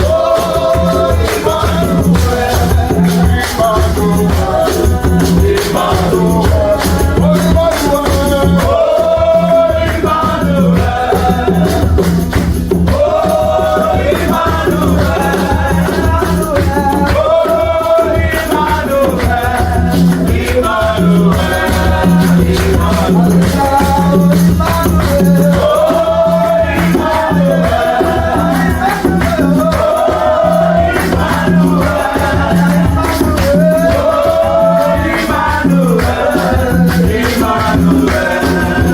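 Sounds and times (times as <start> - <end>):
shaken hand percussion: 0.0 - 38.9
voices singing: 0.0 - 38.9.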